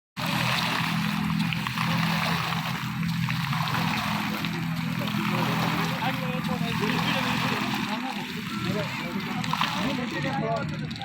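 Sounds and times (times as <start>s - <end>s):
steady low hum: 0.2s - 10.4s
water trickling and splashing: 0.2s - 11.0s.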